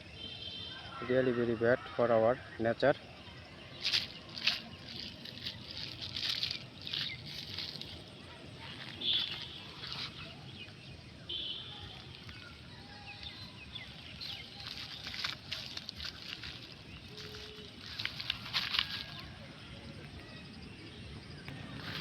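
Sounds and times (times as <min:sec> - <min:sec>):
low outdoor background: 0:00.0 - 0:22.0.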